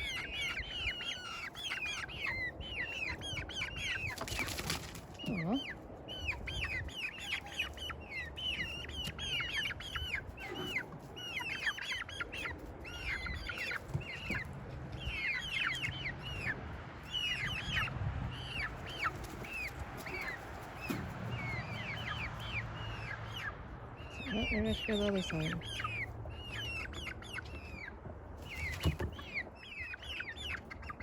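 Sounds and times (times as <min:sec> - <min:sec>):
young poultry peeping: 0:00.0 - 0:31.0.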